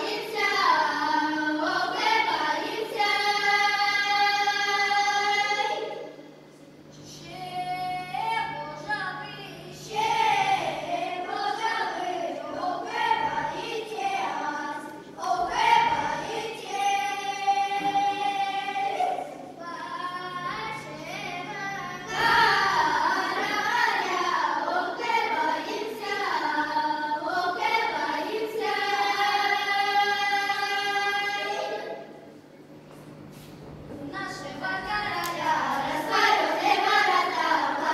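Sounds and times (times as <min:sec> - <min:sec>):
children's choir singing: 0:00.0 - 0:06.2, 0:07.3 - 0:32.3, 0:34.0 - 0:37.9.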